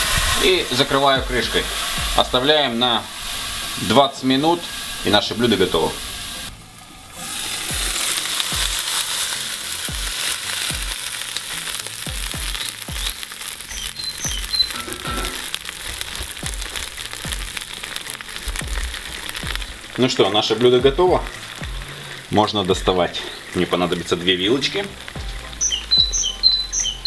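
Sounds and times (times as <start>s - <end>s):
food sizzling and popping in pot: 0.0s - 27.0s.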